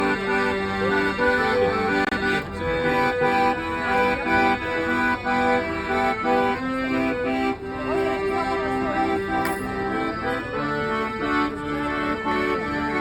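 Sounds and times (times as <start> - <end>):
reedy instrumental chords: 0.0 - 13.0.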